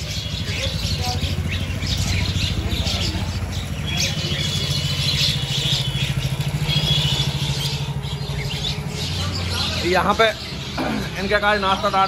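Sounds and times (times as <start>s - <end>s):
birds chirping and chattering: 0.0s - 12.0s
motorcycle engine idling: 0.0s - 12.0s.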